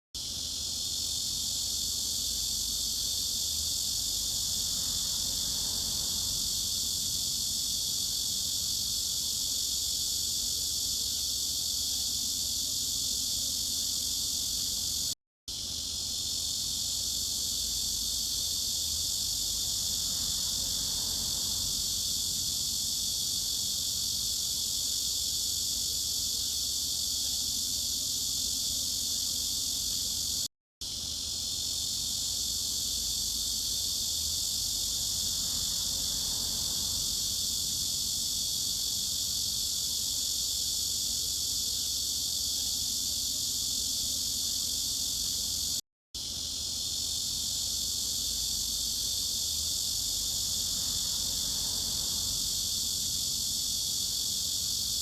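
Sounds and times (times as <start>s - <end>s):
cicadas buzzing: 0.2s - 55.0s.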